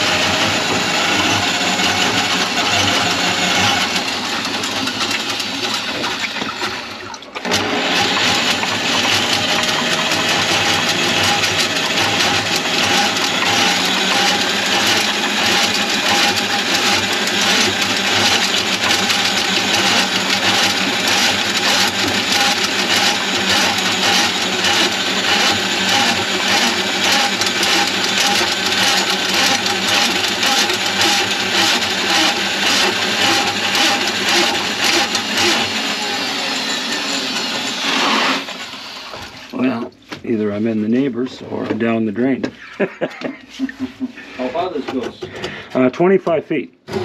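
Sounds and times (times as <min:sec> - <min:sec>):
drain-cleaning machine motor humming: 0:00.0 - 0:41.8.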